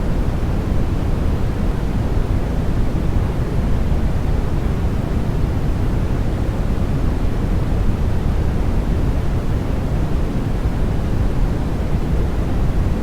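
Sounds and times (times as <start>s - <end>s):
white noise with low rumble: 0.0s - 13.0s.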